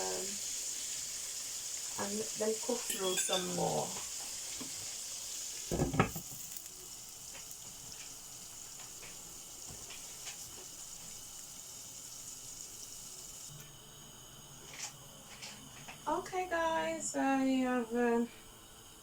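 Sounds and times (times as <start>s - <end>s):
chicken sizzling in hot oil: 0.0s - 17.6s.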